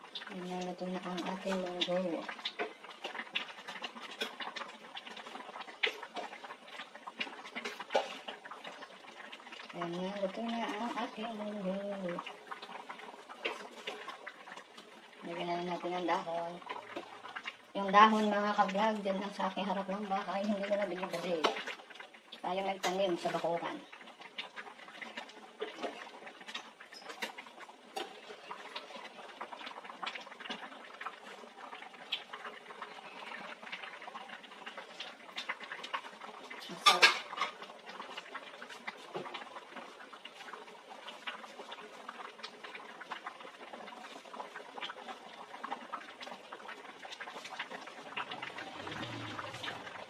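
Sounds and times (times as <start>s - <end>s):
thick soup boiling and bubbling: 0.0s - 50.0s.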